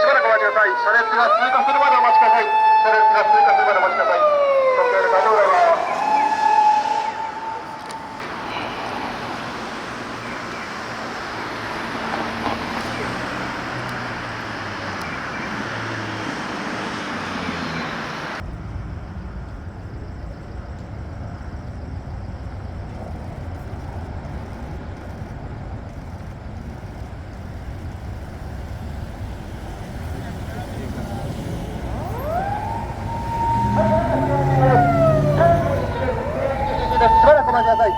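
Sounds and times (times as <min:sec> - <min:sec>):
low traffic rumble: 0:00.0 - 0:37.9
passing cars: 0:00.0 - 0:37.9.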